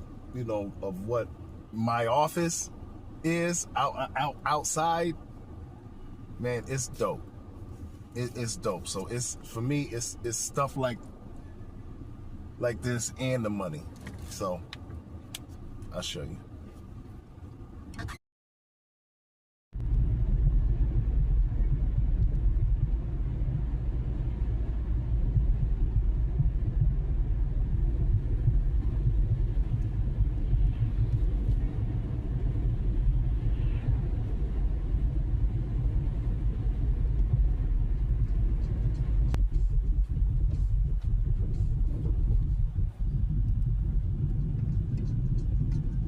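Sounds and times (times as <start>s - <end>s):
car engine and tyres rumbling: 0.0s - 18.2s, 19.8s - 46.0s.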